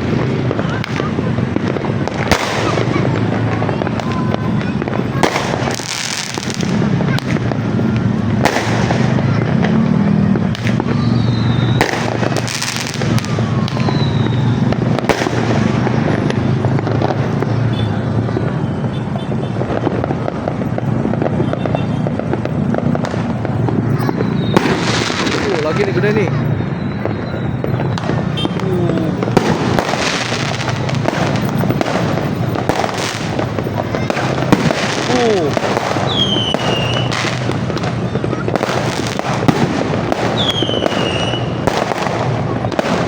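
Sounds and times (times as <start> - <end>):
fireworks bangs and crackling: 0.0 - 43.0
voices: 0.0 - 43.0.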